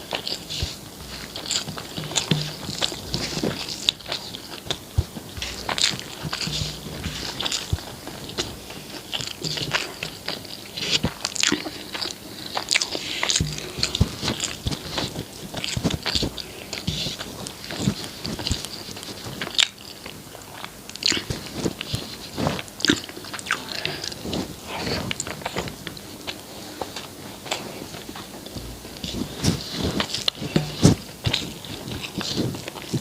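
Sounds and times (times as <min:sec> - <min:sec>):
chewing and biting food: 0:00.0 - 0:33.0.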